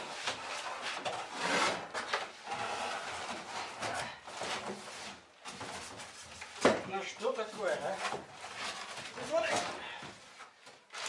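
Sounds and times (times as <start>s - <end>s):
cardboard scraping and rubbing: 0.0s - 9.8s.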